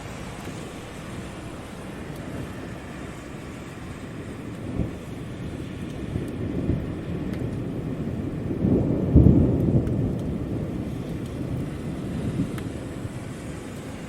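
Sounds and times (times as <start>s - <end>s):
low thunder rumble: 0.0s - 14.0s
steady rain: 0.0s - 14.0s.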